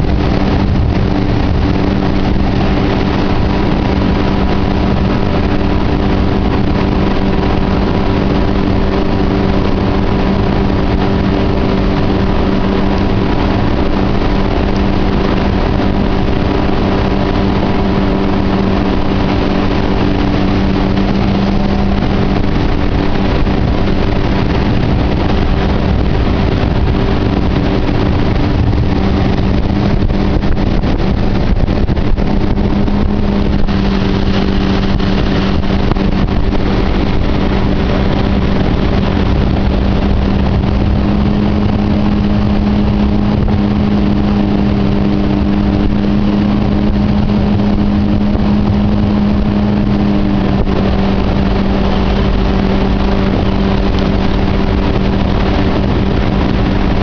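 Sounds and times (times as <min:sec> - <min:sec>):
boat engine drone: 0:00.0 - 0:57.0
rush of wind and water: 0:00.0 - 0:57.0.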